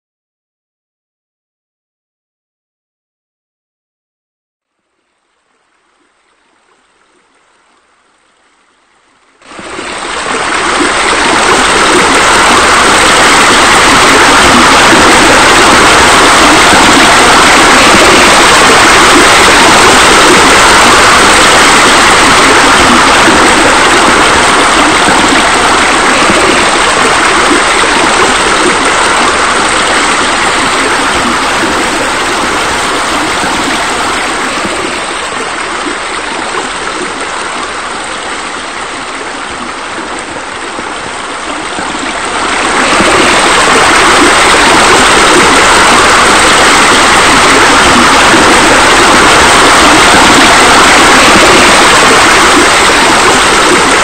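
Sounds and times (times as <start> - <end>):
waterfall rushing into a pool: 9.4 - 54.0.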